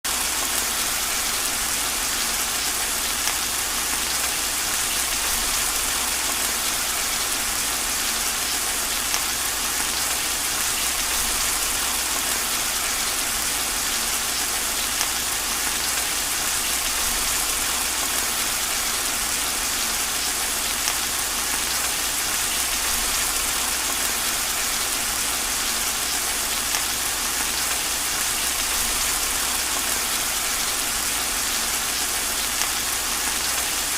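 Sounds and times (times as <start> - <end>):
heavy rain: 0.0 - 33.9.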